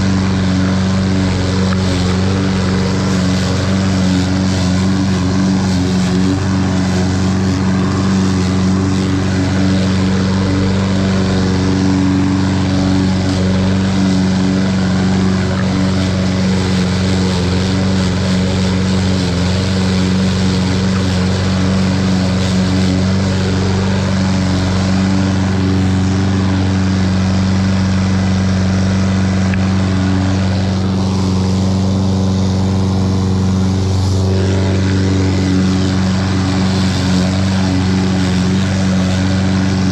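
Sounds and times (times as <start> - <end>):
lawn mower engine mowing grass: 0.0 - 39.9.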